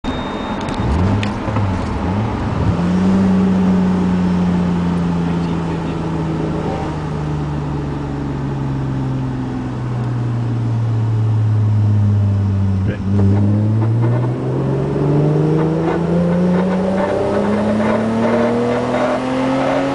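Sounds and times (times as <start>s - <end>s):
car engine running: 0.6s - 19.9s.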